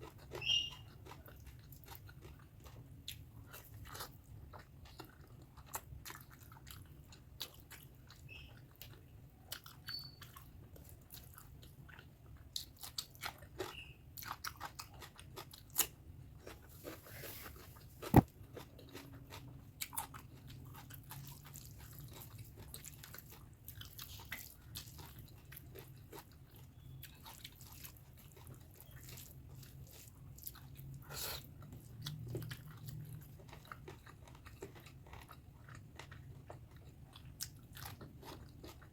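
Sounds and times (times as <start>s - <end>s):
person chewing with mouth smacks: 0.0s - 38.9s.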